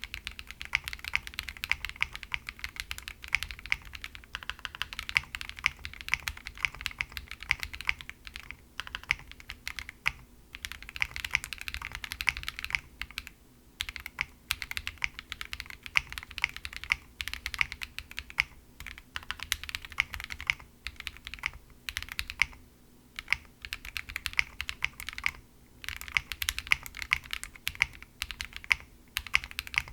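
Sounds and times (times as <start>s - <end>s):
mechanical keyboard typing: 0.0s - 22.6s, 23.2s - 29.9s.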